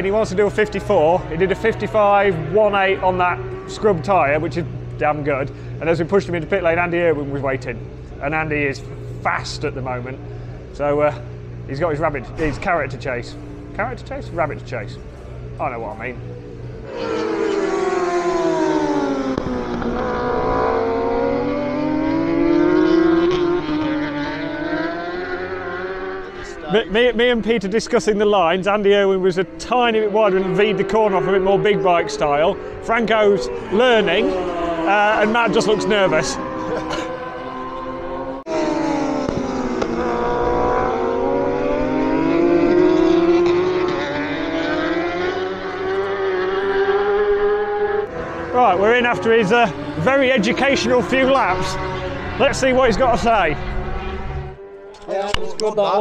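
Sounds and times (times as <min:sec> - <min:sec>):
superbike engines revving: 0:00.0 - 0:56.0.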